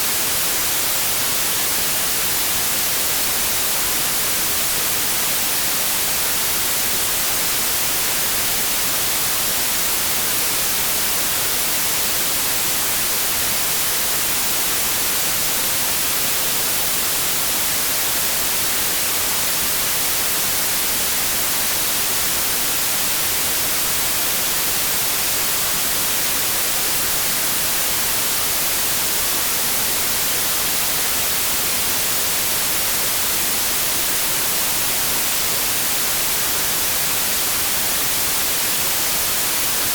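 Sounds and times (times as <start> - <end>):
white noise static hiss: 0.0 - 39.9.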